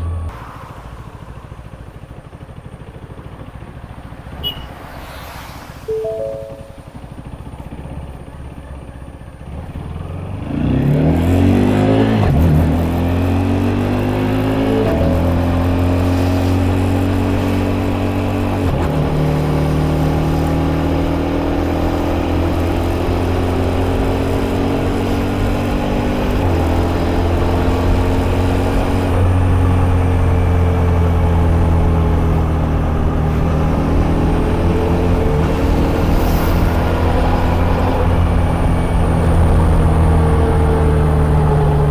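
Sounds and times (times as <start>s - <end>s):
motorcycle engine accelerating: 7.2s - 41.9s.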